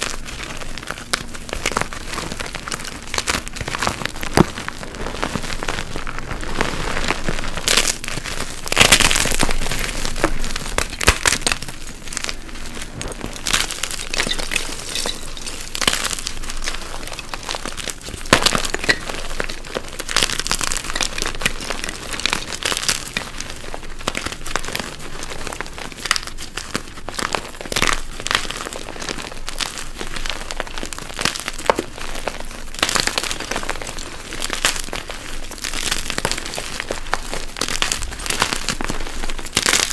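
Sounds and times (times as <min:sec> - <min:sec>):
chalk crunching: 0:00.0 - 0:39.9
sharp chalk cracks: 0:00.0 - 0:39.9.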